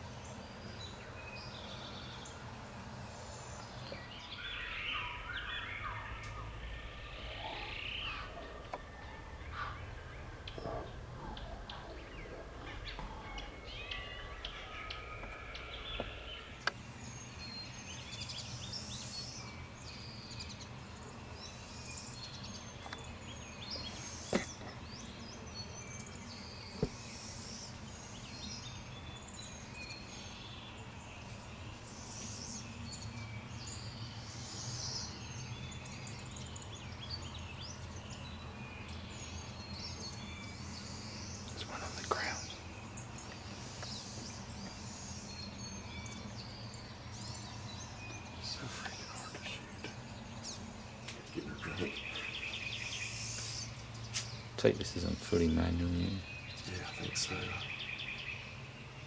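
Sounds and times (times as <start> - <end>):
outdoor background noise: 0.0 - 59.0
songbirds chirping and calling: 0.0 - 59.0.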